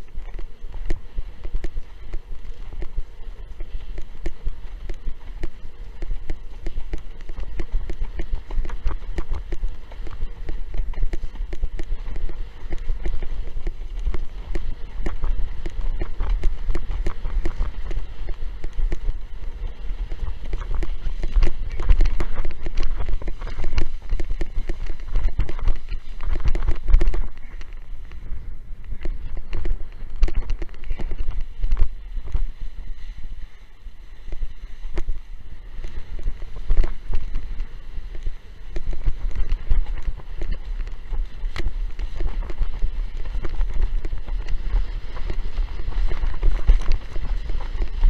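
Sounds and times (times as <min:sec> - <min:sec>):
windsurf board slapping water: 0:00.0 - 0:33.5, 0:34.1 - 0:48.0
wind buffeting microphone: 0:00.0 - 0:48.0.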